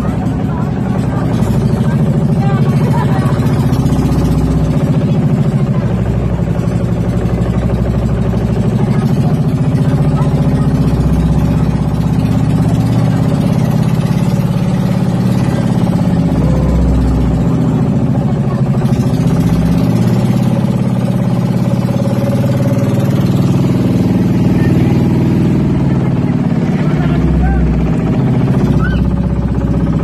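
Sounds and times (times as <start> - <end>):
boat engine running: 0.0 - 30.0
water rushing along hull: 0.0 - 30.0.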